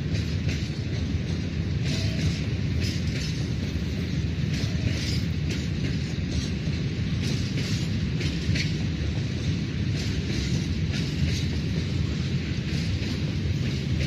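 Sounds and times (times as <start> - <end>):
distant freight train rumble: 0.0 - 14.0
train wheels clattering: 0.0 - 14.0.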